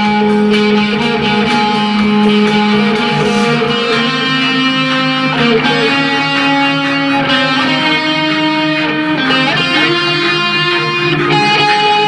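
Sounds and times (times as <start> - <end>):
electric guitar melody: 0.0 - 12.0.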